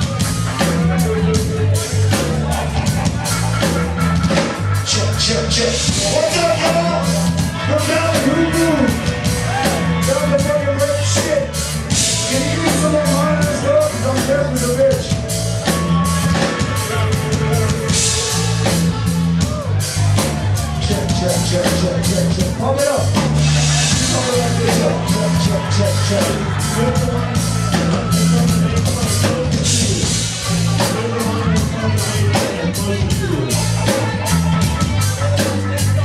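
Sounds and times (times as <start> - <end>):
bass line: 0.0 - 36.0
drum kit beat: 0.0 - 36.0
rock band playing: 0.0 - 36.0.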